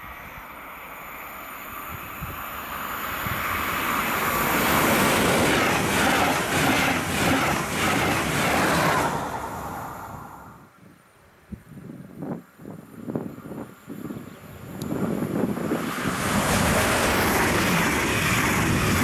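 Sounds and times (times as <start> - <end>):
train passing at speed: 0.0 - 10.8, 12.3 - 19.0.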